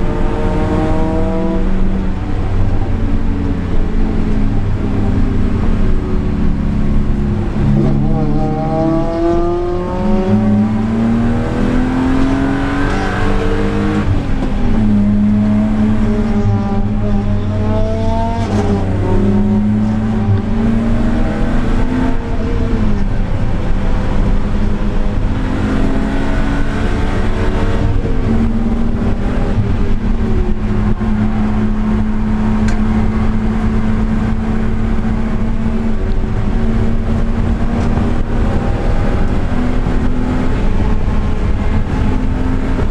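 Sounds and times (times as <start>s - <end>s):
car engine revving through gears: 0.0s - 42.9s.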